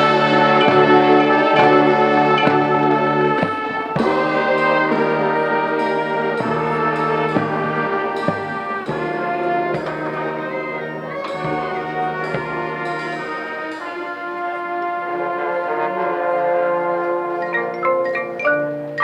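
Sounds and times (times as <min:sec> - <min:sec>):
brass section playing chords: 0:00.0 - 0:19.0.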